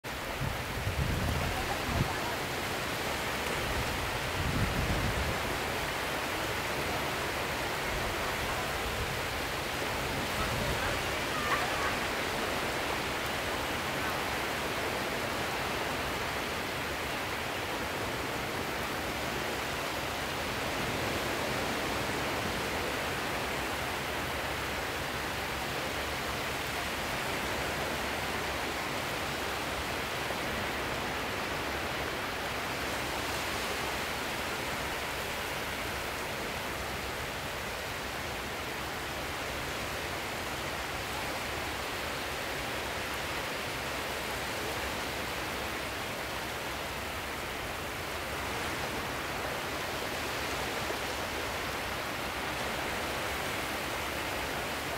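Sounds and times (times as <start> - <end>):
waves washing: 0.0 - 54.9.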